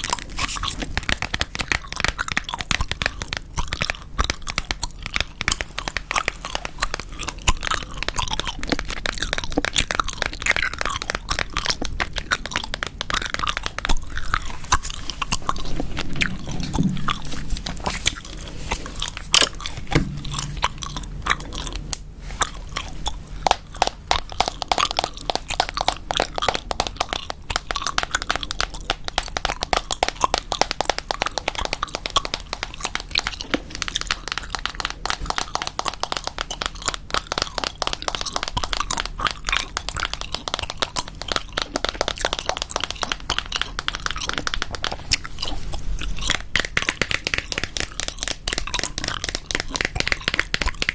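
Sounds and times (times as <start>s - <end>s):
gum chewing clicks: 0.0s - 50.9s.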